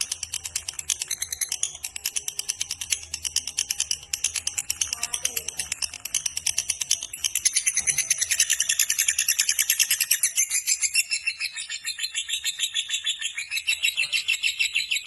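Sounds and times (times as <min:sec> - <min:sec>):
lovebird chattering trill: 0:00.0 - 0:15.0.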